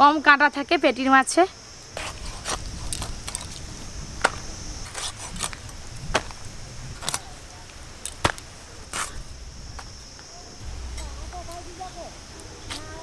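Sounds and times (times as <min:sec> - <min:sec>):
high insect hiss: 0:00.0 - 0:13.0.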